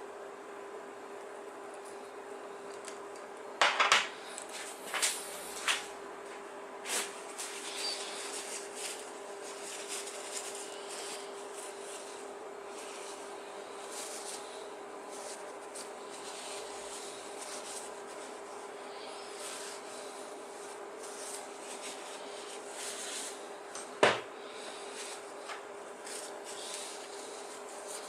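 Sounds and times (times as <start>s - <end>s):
steady hum: 0.0s - 28.0s
rubbing and handling sounds: 4.5s - 23.7s, 24.4s - 28.0s.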